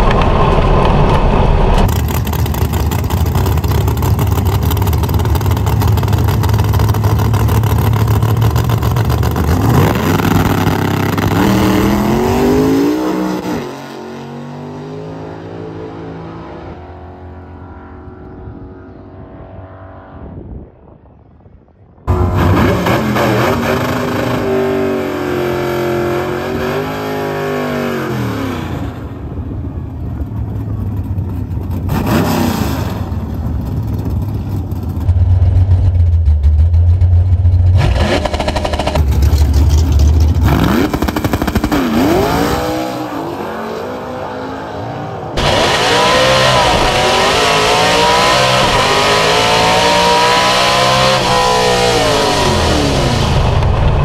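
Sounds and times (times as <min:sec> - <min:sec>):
race car engine revving: 0:00.0 - 0:20.0, 0:22.1 - 0:29.1, 0:31.4 - 0:54.0.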